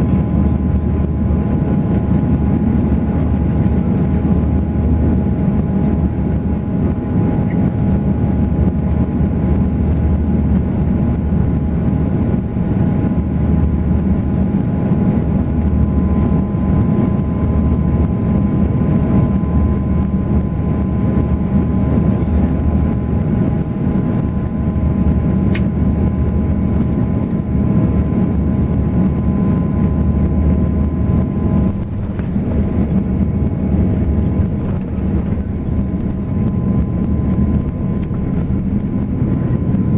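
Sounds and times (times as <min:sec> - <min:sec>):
jet engine cabin rumble: 0:00.0 - 0:39.9
steady whining tones: 0:00.0 - 0:39.9.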